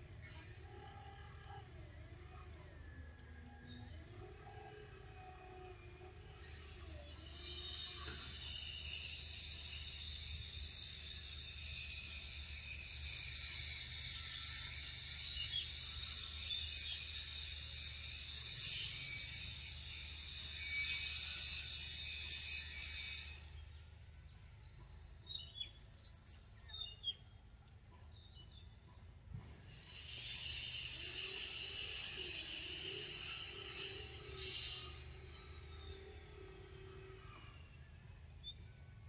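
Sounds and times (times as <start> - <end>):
high-pitched insect chorus buzzing: 0.0 - 27.3, 28.1 - 39.0.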